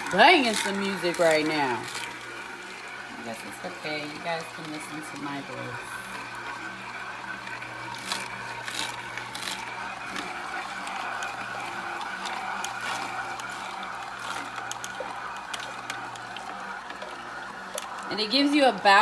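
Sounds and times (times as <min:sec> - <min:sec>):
celery crackling: 0:00.0 - 0:19.0
juicer humming: 0:00.0 - 0:19.0.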